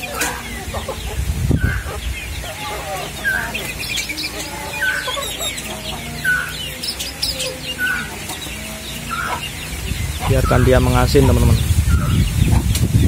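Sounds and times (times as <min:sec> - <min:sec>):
high bird chirping: 0:00.0 - 0:13.0.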